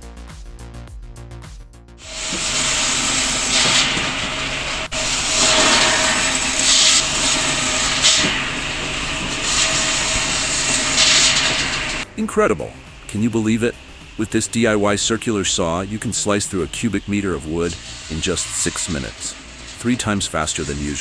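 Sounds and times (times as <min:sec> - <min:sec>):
circular saw whining: 0:02.0 - 0:21.0
saw blade cutting wood: 0:02.0 - 0:21.0.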